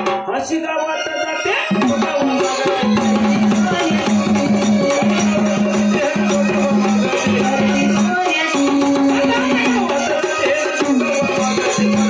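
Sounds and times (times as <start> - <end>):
fast jingling percussion: 1.2 - 12.0.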